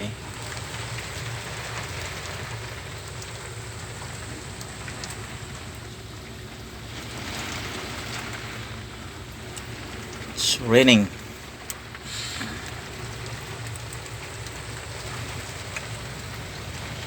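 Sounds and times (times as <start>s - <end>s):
heavy rain on glass: 0.0s - 17.0s
low steady hum: 0.0s - 17.0s.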